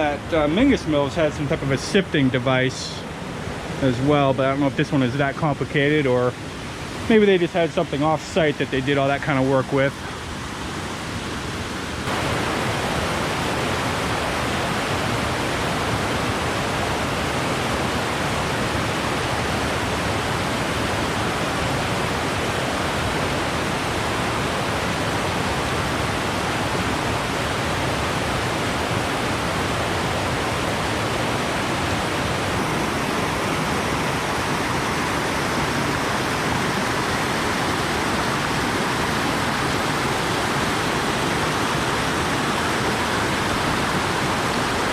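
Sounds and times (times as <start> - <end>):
rushing stream water: 0.0 - 44.9.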